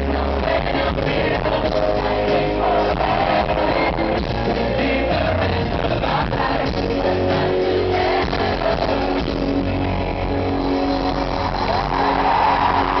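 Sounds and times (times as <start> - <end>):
live pop band music: 0.0 - 13.0.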